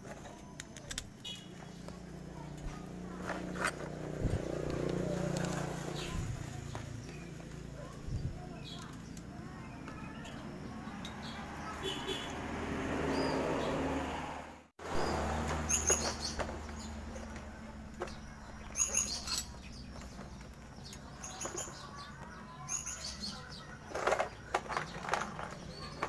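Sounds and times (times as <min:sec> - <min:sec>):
small birds chirping: 0:00.1 - 0:14.1, 0:14.9 - 0:26.0.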